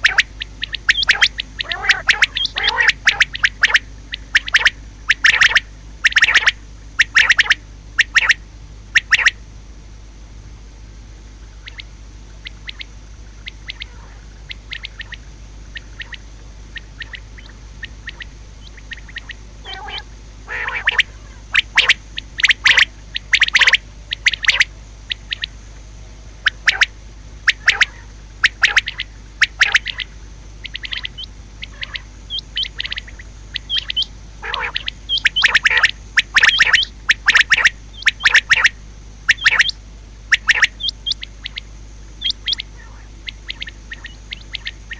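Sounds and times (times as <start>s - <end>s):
quail calling: 0.0s - 9.4s, 11.6s - 25.7s, 26.4s - 44.9s
steady low hum: 0.0s - 44.9s.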